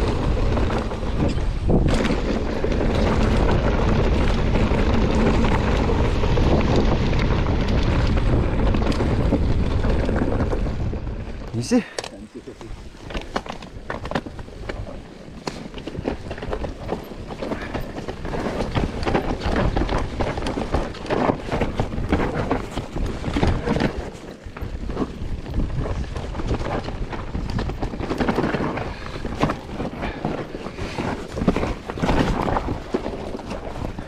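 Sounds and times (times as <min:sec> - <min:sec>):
bike knocks and rattles: 0:00.0 - 0:12.0, 0:12.8 - 0:34.0
bike tyres running: 0:00.0 - 0:34.0
wind buffeting microphone: 0:00.0 - 0:34.0.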